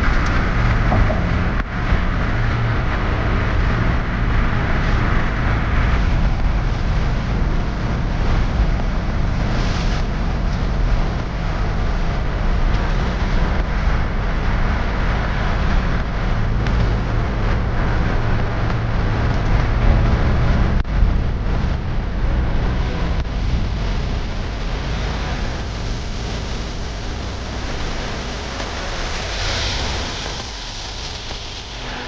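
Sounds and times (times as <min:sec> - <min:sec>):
road and wind noise: 0:00.0 - 0:32.0
vehicle rumbling in motion: 0:00.0 - 0:32.0.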